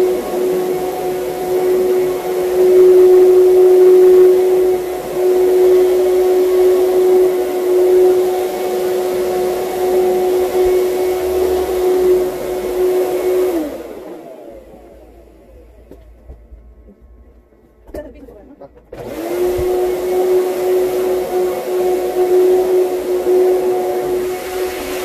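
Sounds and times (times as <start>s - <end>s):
vacuum cleaner running on carpet: 0.0s - 16.9s, 18.9s - 25.0s.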